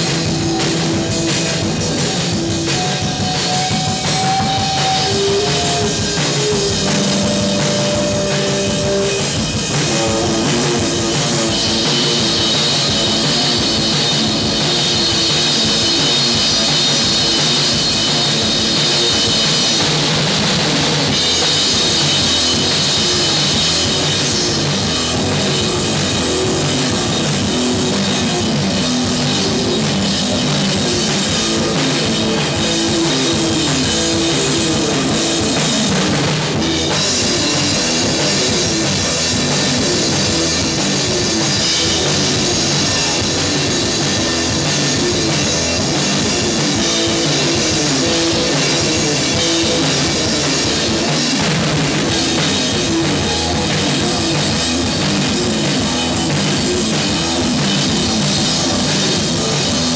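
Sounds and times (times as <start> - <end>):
drum kit with cymbal wash: 0.0 - 59.9
electric guitar: 0.0 - 59.9
rock band playing live: 0.0 - 59.9.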